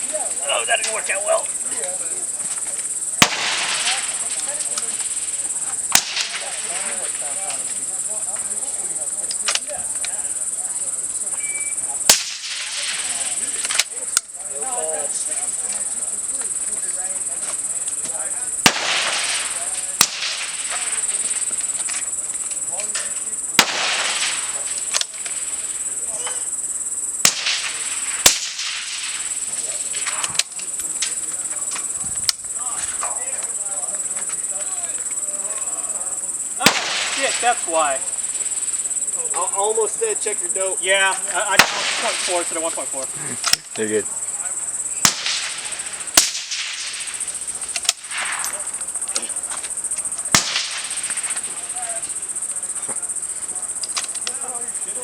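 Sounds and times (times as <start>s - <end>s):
insects buzzing: 0.0s - 55.0s.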